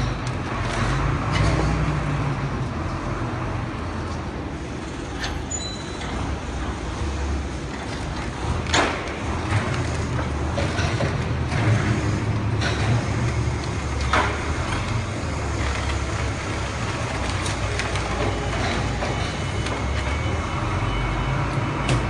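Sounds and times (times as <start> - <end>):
forklift engine rumbling: 0.0 - 22.0.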